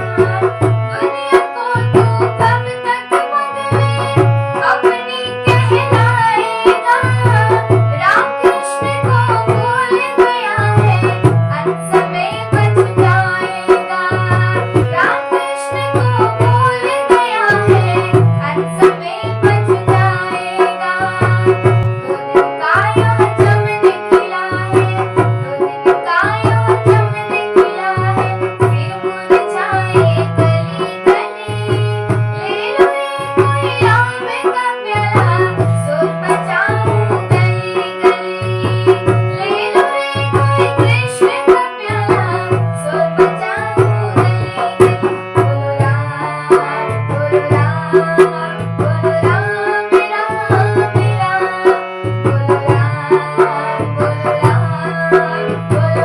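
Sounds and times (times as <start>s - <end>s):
tabla: 0.0s - 56.0s.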